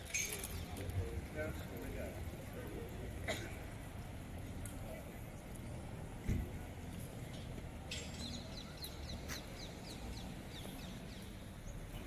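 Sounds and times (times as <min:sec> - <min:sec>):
low hum of city noise: 0:00.0 - 0:12.0.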